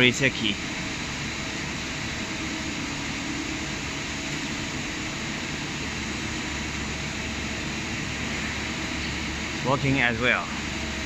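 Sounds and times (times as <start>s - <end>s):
machine humming and hissing: 0.0s - 11.0s.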